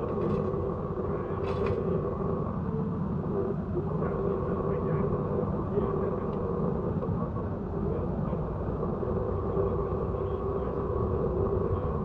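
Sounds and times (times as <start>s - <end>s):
droning hum: 0.0s - 12.0s.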